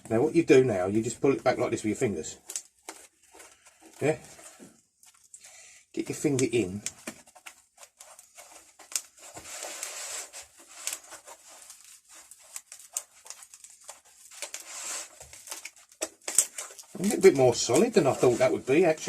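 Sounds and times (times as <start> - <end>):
foam rustling and tearing: 0.0 - 5.4, 6.0 - 19.0.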